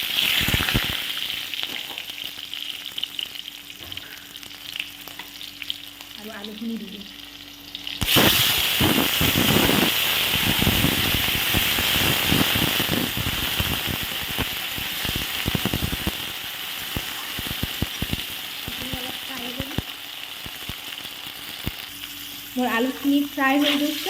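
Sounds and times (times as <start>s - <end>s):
potatoes sizzling in hot oil: 0.0s - 24.0s.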